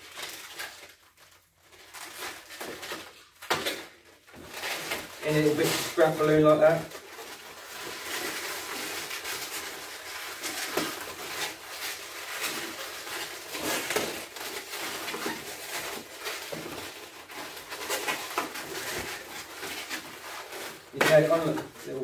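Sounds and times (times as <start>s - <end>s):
balloons rubbing and squeaking: 0.0s - 22.0s.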